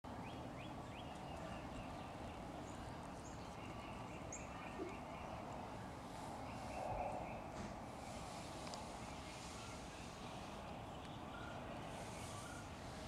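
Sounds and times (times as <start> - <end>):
background hiss and hum: 0.1 - 13.0.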